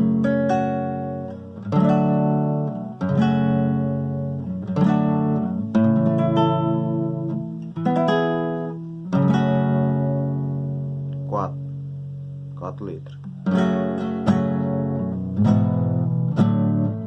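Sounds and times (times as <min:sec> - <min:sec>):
acoustic guitar strums: 0:00.0 - 0:17.0.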